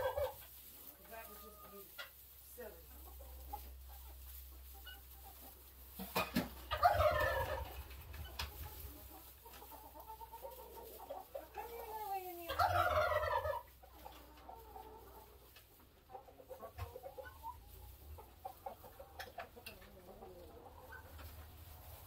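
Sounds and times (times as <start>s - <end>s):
hens clucking and calling: 0.0s - 22.0s.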